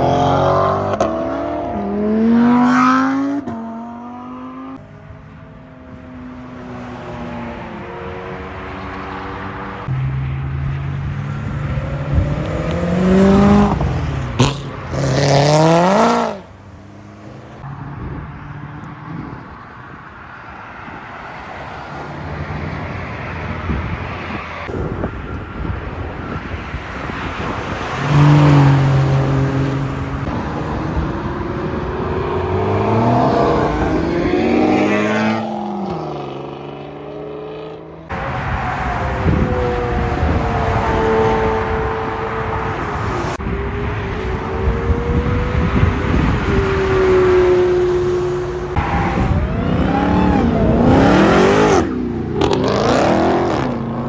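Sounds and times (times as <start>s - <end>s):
cars accelerating past: 0.0s - 4.9s, 5.9s - 19.4s, 27.0s - 54.0s.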